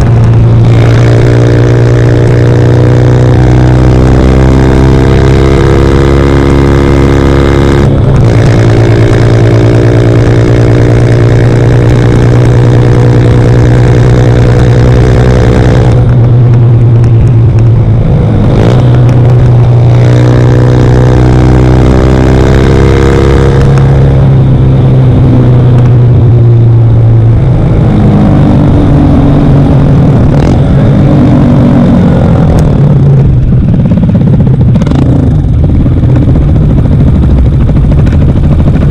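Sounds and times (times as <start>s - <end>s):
motorcycle engine revving high: 0.0s - 38.9s.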